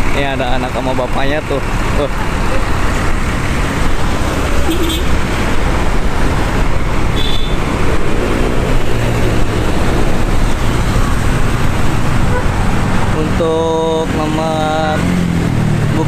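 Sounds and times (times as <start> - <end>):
road traffic engine and tyre noise: 0.0 - 16.0.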